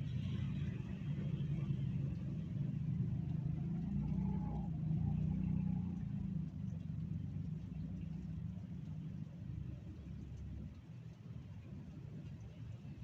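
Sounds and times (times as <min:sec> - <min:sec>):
traffic on flooded road: 0:00.0 - 0:13.0.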